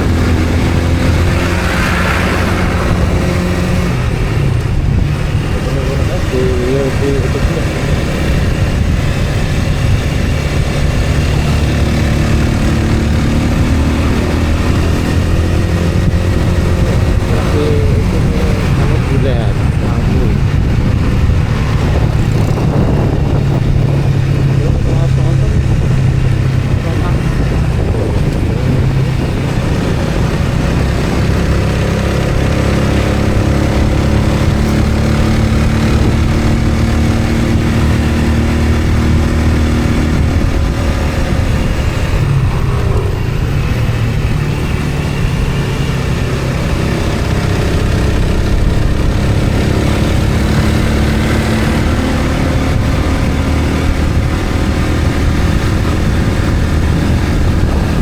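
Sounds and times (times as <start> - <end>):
road noise: 0.0 - 58.0
vehicle engine running: 0.0 - 58.0.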